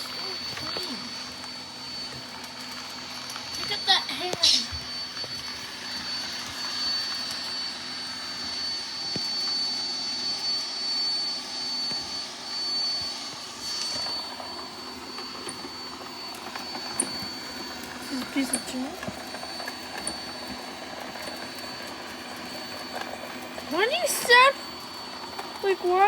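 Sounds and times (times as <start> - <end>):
robot vacuum whirring: 0.0 - 26.0
thin high-pitched whine: 0.0 - 26.0.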